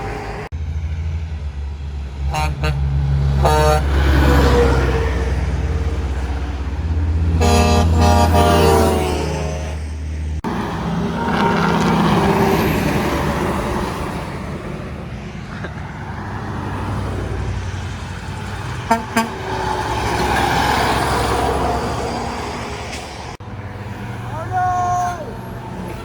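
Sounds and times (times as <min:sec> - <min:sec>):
highway traffic passing: 0:00.0 - 0:26.0.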